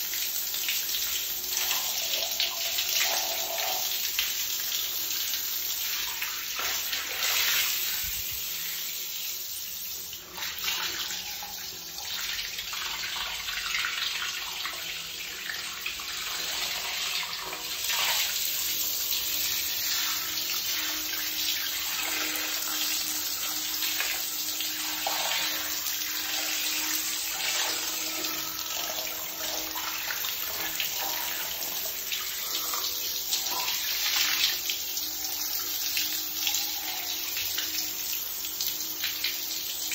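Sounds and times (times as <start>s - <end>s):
shower water splashing on tiles: 0.0s - 39.9s.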